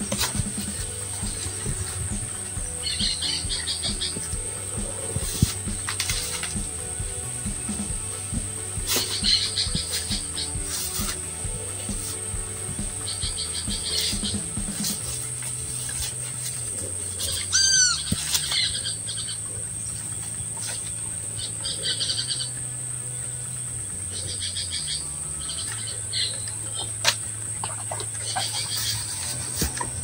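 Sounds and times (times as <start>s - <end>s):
insects trilling: 0.0s - 30.0s
low steady hum: 0.0s - 30.0s.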